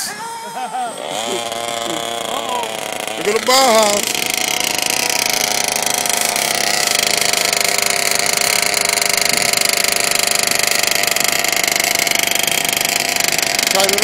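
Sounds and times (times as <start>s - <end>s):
small two-stroke engine idling: 1.0s - 14.0s.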